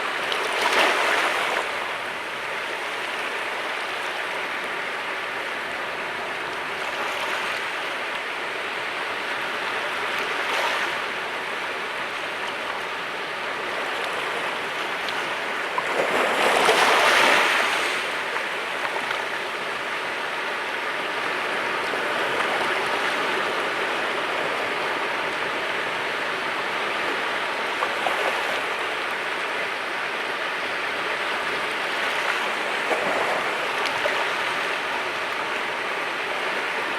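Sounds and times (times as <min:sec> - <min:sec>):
sea waves washing on shore: 0:00.0 - 0:36.9.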